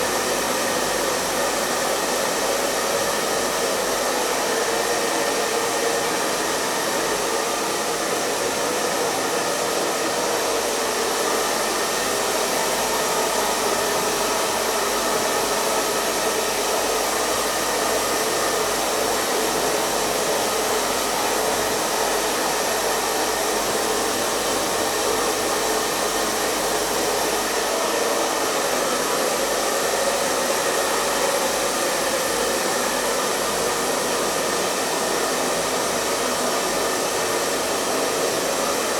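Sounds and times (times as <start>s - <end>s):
hair dryer air rush: 0.0s - 38.9s.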